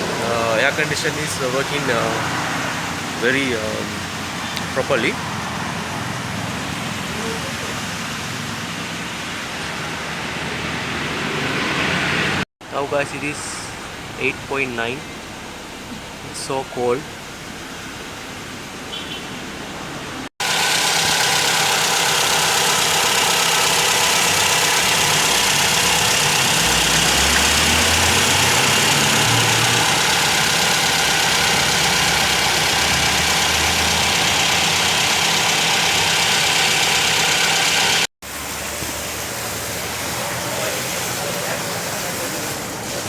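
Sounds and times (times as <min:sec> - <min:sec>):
car engine idling: 0:00.0 - 0:11.2, 0:12.7 - 0:43.0.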